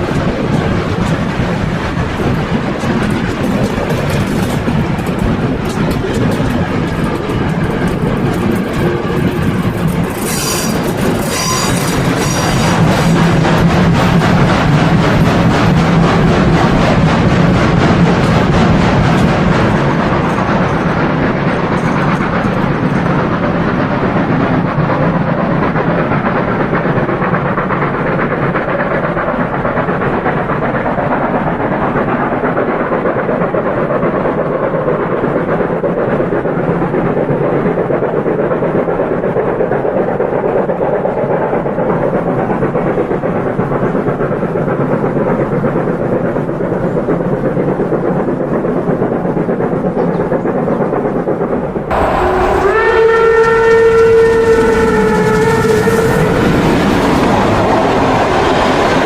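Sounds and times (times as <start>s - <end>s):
model train wheels rumbling on track: 0.0s - 59.0s.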